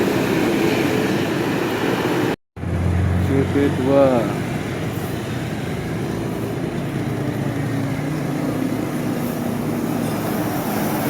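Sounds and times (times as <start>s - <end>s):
heavy vehicle engine running: 0.0s - 11.0s
road noise: 0.0s - 11.0s.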